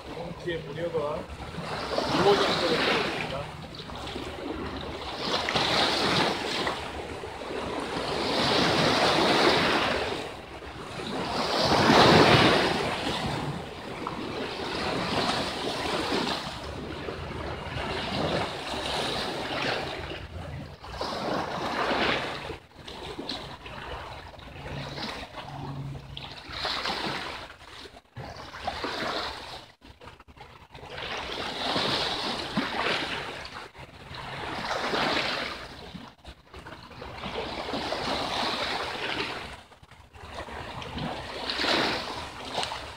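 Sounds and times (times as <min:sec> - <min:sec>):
waves breaking against rocks: 0:00.0 - 0:42.9.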